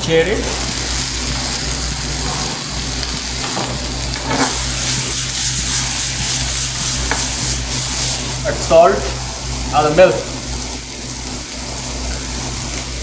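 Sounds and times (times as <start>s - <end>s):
steady low hum: 0.0s - 13.0s
vegetables sizzling in oil: 0.0s - 13.0s.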